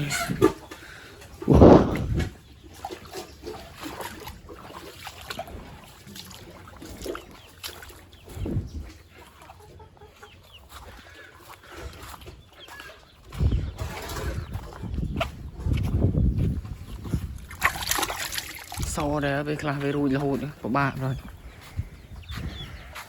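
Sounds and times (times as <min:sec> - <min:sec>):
farmyard animals clucking: 0:00.0 - 0:23.0.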